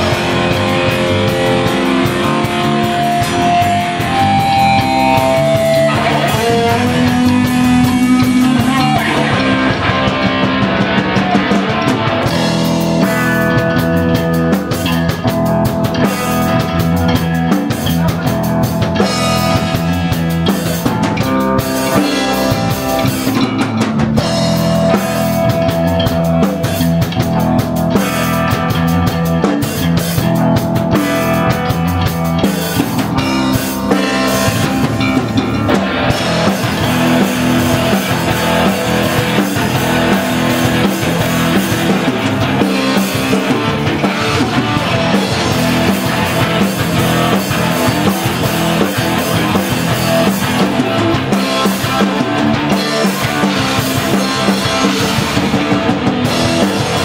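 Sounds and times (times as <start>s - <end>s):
drum kit: 0.0s - 57.0s
electric guitar: 0.0s - 57.0s
rock band playing live: 0.0s - 57.0s.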